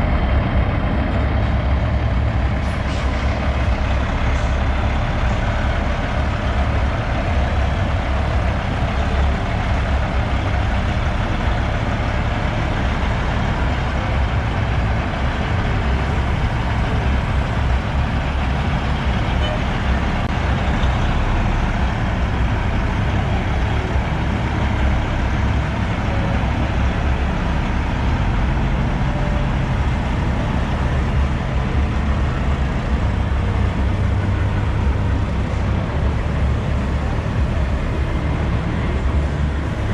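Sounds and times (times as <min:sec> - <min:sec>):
truck diesel engines passing: 0:00.0 - 0:39.9.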